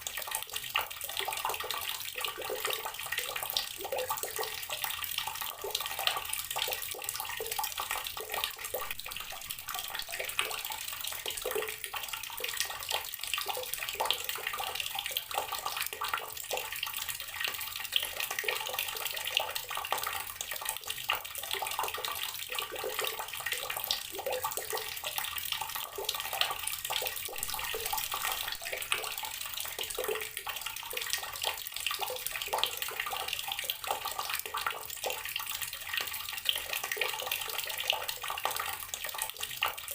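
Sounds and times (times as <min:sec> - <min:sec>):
water running from tap splashing: 0:00.0 - 0:39.9.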